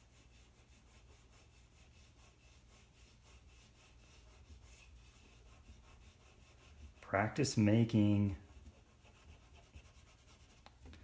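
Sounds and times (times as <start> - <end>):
eraser rubbing on paper: 0.0 - 11.0.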